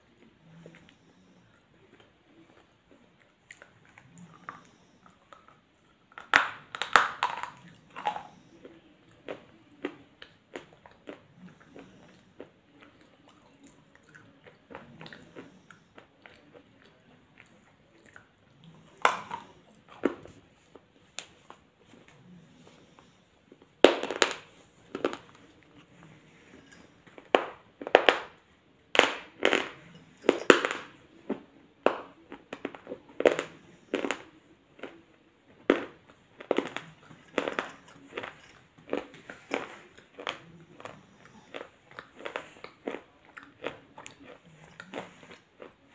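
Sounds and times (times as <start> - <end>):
crunching and chewing: 0.0 - 45.9.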